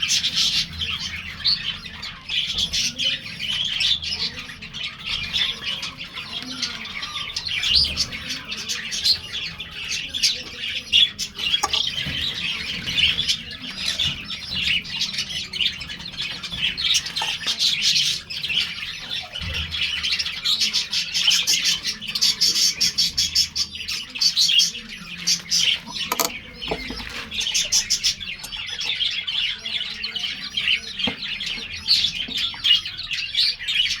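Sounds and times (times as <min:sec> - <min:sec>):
budgies chirping and chattering: 0:00.0 - 0:34.0.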